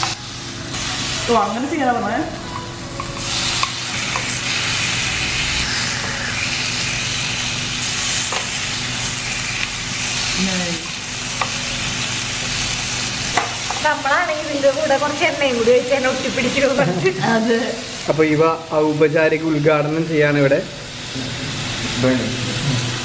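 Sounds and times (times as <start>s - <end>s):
beef sizzling on a grill: 0.0s - 23.0s.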